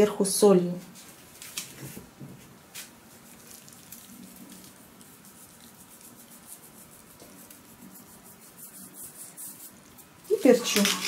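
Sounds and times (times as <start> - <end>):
low hum and hiss: 0.0 - 11.0.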